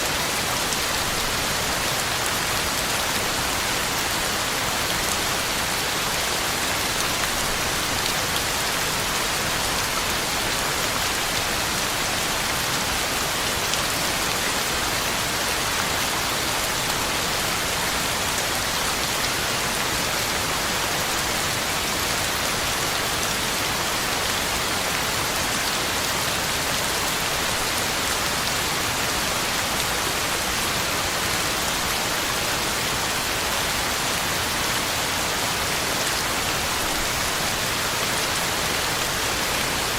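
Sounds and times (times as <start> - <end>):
heavy rain on ground and leaves: 0.0 - 39.9.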